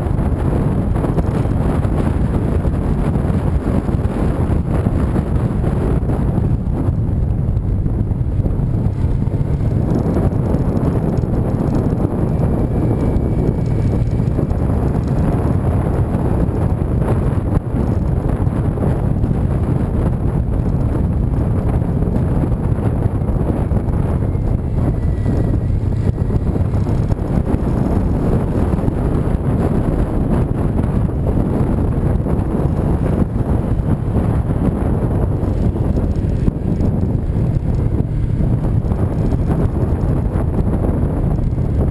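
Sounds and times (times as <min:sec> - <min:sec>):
motorcycle engine running: 0:00.0 - 0:41.9
road noise: 0:00.0 - 0:41.9
wind rumbling on microphone: 0:00.0 - 0:41.9.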